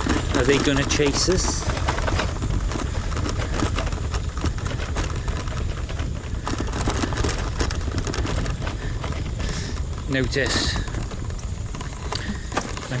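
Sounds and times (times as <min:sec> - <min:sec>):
bicycle clicks and rattles: 0:00.0 - 0:13.0
wind rumble on microphone: 0:00.0 - 0:13.0.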